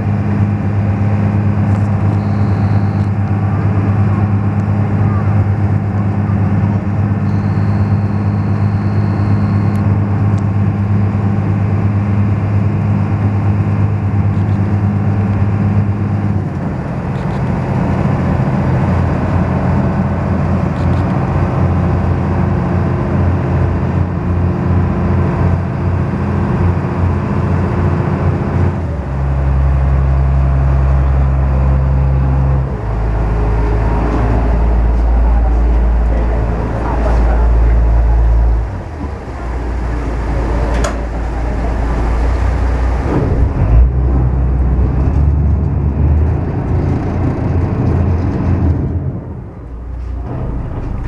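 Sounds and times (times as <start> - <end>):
ferry engine drone: 0.0 - 51.0.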